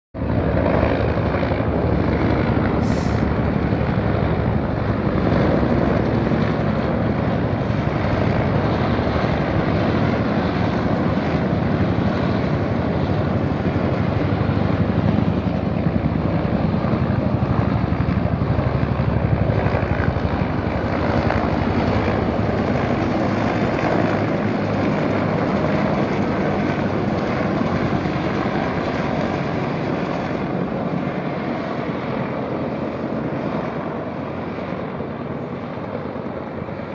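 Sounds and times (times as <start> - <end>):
helicopter rotor chopping: 0.2 - 36.9.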